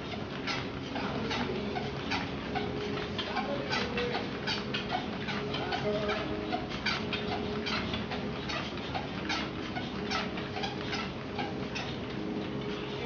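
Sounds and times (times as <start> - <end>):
dog paws pattering on belt: 0.0 - 13.0
treadmill motor humming: 0.0 - 13.0.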